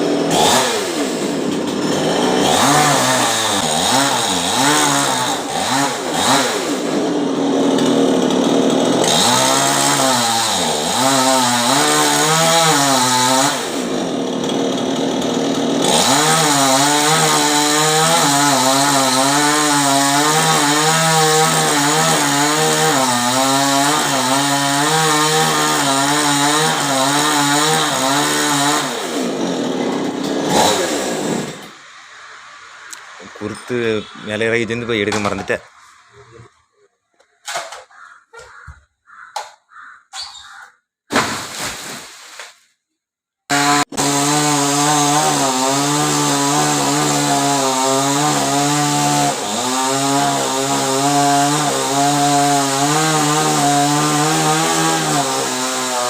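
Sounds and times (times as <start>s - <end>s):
chainsaw cutting wood: 0.0s - 34.0s, 41.1s - 42.4s, 43.5s - 56.0s.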